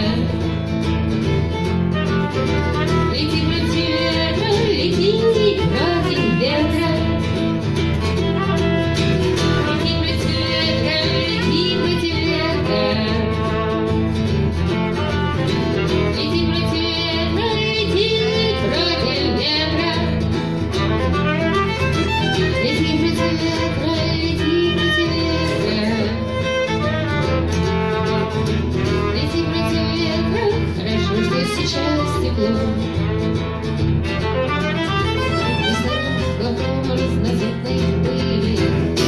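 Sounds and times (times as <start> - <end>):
strummed acoustic guitar: 0.0 - 39.0
violin bowed melody: 1.2 - 37.3.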